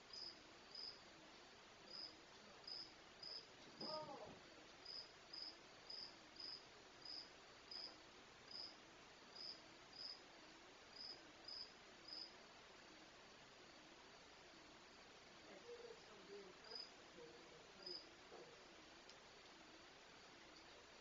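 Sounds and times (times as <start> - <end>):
crickets chirping: 0.1 - 1.1, 1.8 - 21.0.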